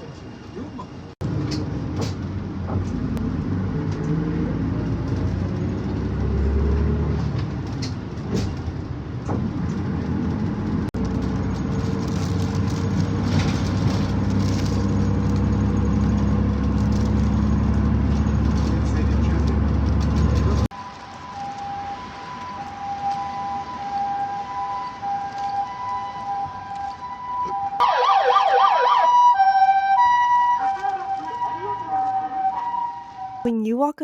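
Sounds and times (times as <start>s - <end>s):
bus engine running: 0.0s - 27.3s
road noise: 0.0s - 33.8s.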